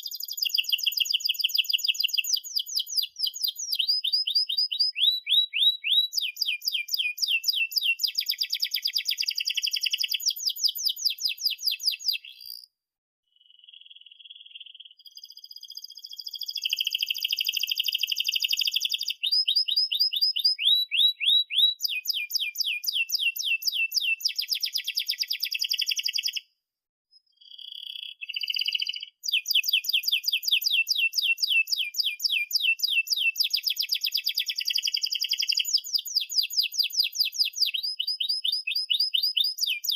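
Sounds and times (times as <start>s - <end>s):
canary singing trills: 0.0s - 12.7s, 13.4s - 26.4s, 27.2s - 39.9s.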